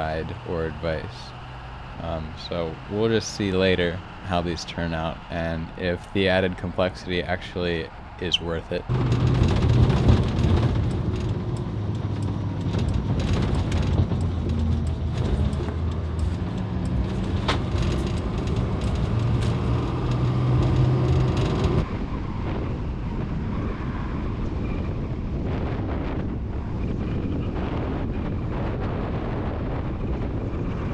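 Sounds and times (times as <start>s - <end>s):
truck engine hum: 0.0s - 24.8s
road noise: 0.0s - 30.9s
wind rushing: 0.0s - 30.9s.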